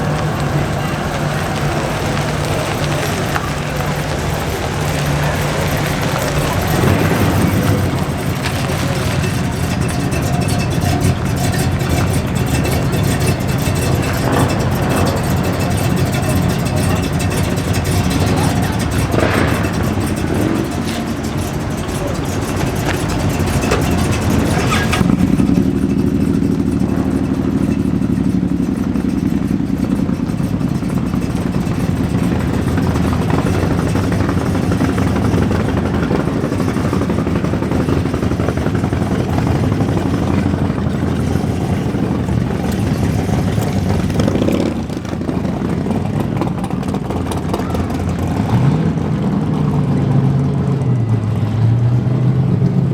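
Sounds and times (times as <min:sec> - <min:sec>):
car engines running and revving: 0:00.0 - 0:52.9
deep steady engine note: 0:00.0 - 0:52.9.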